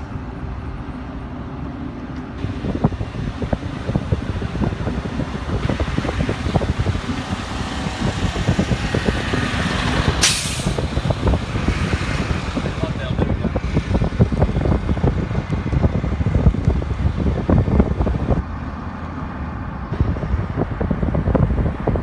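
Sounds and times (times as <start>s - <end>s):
motor vehicle engine rumbling: 0.0s - 22.0s.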